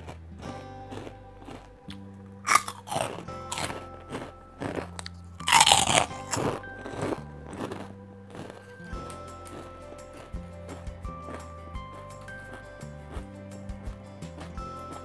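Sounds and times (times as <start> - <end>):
background music: 0.0 - 15.0
pork crackers crunching: 0.0 - 15.0.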